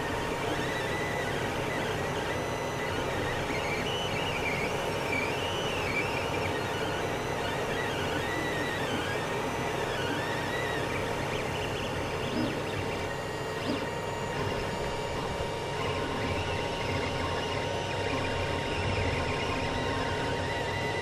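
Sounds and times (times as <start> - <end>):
steady whir: 0.0 - 21.0
stepper motors whining: 0.0 - 21.0.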